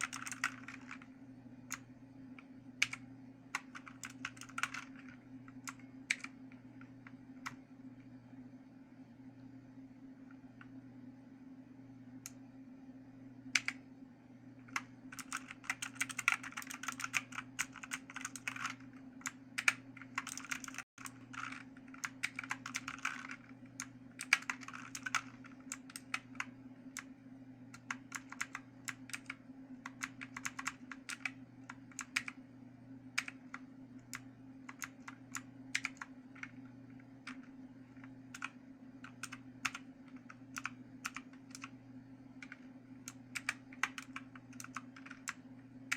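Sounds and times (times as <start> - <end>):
mechanical keyboard typing: 0.0 - 7.6, 13.6 - 13.8, 14.6 - 27.1, 27.7 - 32.4, 33.1 - 41.8, 42.4 - 45.9.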